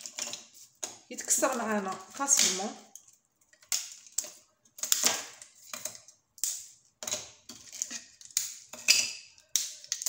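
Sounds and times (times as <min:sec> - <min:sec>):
brittle snapping with crisp cracks: 0:00.0 - 0:05.8, 0:06.4 - 0:10.0.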